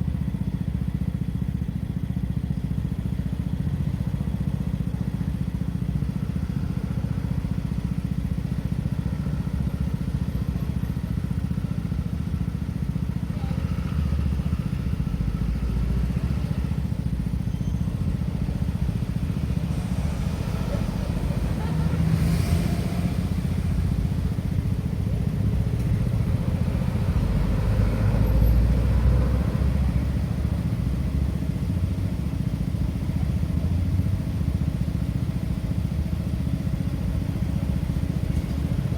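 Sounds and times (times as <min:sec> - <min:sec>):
traffic rumble: 0:00.0 - 0:38.9
vehicles passing: 0:03.5 - 0:38.9.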